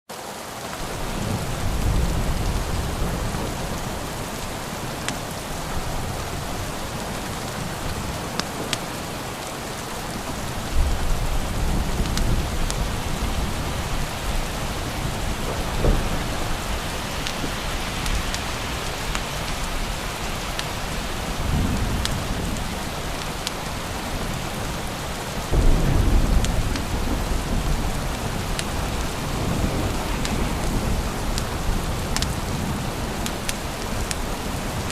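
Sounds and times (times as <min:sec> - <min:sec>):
steady rain: 0:00.1 - 0:34.9
thunder rolling: 0:00.8 - 0:08.4, 0:10.3 - 0:34.9.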